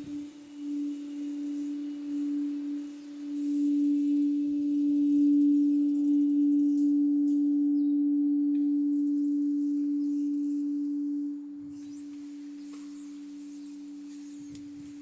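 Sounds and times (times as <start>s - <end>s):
long pure ringing tone: 0.0s - 15.0s.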